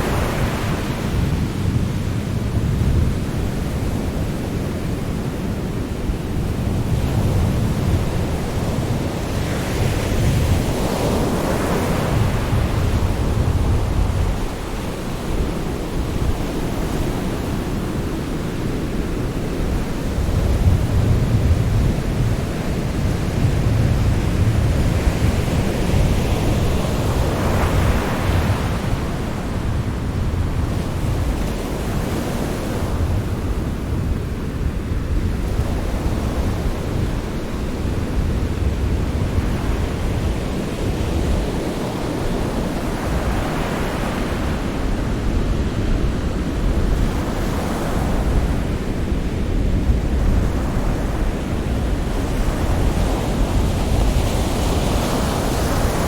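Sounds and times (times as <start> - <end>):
sea surf washing: 0.0 - 56.0.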